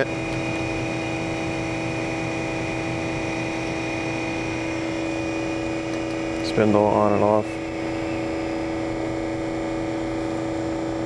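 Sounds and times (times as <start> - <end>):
surface grinder humming: 0.0 - 11.0.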